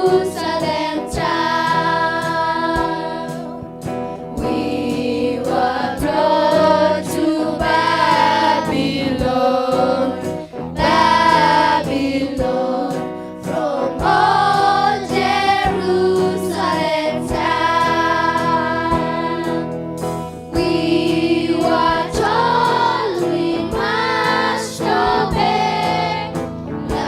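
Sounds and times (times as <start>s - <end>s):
group singing in chorus: 0.0s - 27.0s
instrumental accompaniment: 0.0s - 27.0s.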